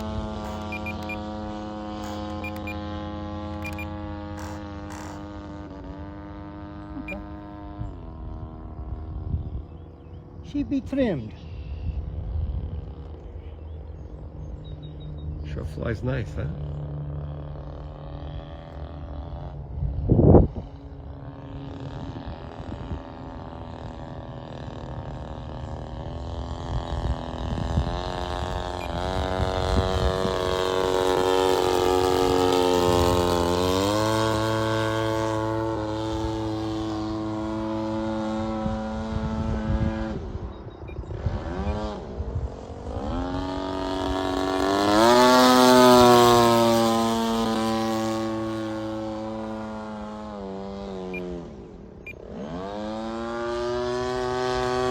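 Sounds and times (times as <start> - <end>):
model airplane motor: 0.0 - 54.9.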